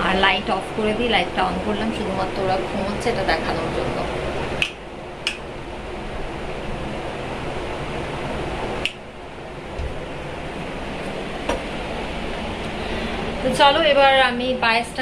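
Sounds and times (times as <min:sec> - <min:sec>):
room fan whirring: 0:00.0 - 0:15.0.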